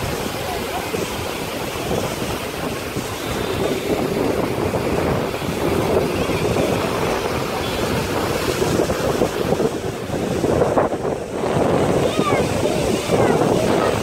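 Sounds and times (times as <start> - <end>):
surf washing against seawall: 0.0 - 14.0
wind buffeting microphone: 0.0 - 14.0.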